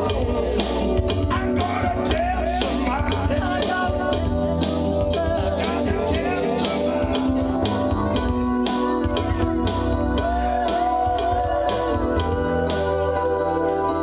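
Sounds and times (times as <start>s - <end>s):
electric keyboard with steady beat: 0.0s - 14.0s
man singing into a microphone: 0.0s - 14.0s.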